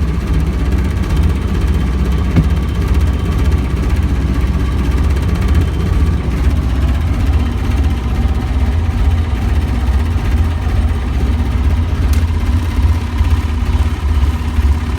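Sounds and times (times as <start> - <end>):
boat engine rumbling: 0.0 - 14.9.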